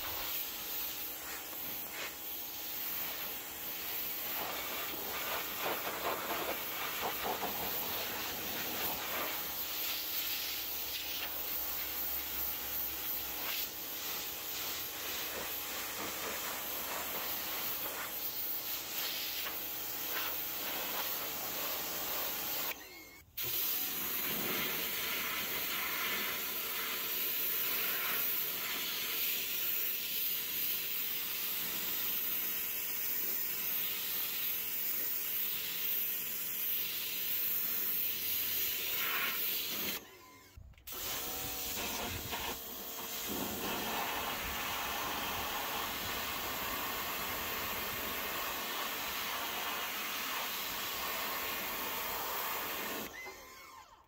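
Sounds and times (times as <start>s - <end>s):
pressure washer spraying water: 0.0s - 22.8s, 23.4s - 40.0s, 40.9s - 53.1s.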